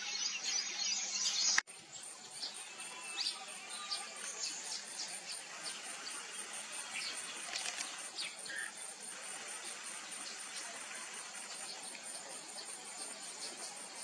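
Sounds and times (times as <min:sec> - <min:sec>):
dense insect buzz: 0:01.8 - 0:14.0
pulsing insect chorus: 0:01.8 - 0:14.0.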